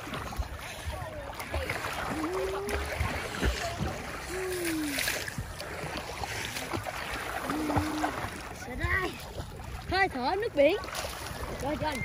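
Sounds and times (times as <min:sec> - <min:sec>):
seawater sloshing and splashing: 0:00.0 - 0:12.0.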